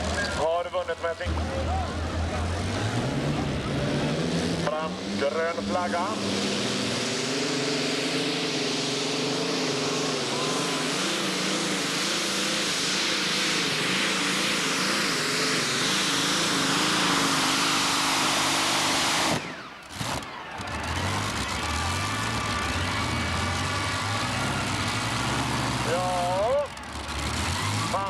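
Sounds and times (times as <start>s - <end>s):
tractor engine at full power: 0.0s - 28.0s.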